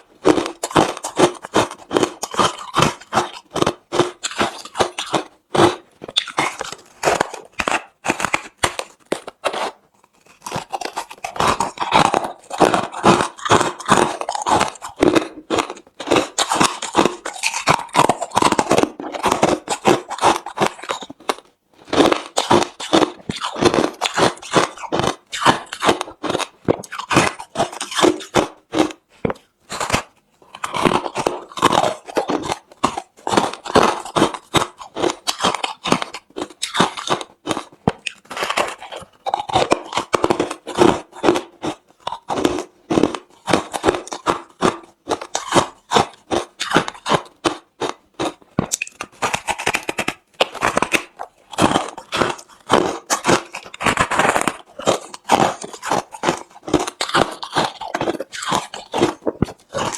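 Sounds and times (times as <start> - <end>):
chewing crushed ice: 0.0 - 59.9.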